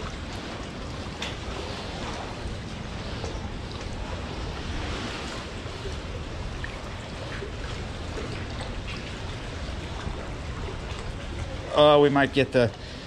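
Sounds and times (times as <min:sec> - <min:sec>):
low rumble of wind: 0:00.0 - 0:13.0
river water lapping: 0:00.0 - 0:13.0.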